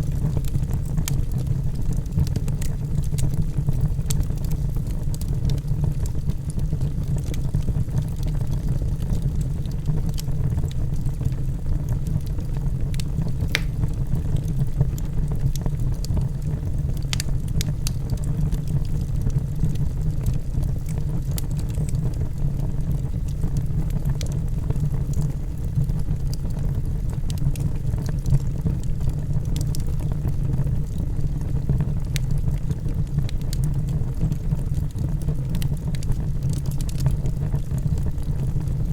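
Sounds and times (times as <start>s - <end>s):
burning wood crackling and popping: 0.0s - 38.9s
fire flames rumbling: 0.0s - 38.9s.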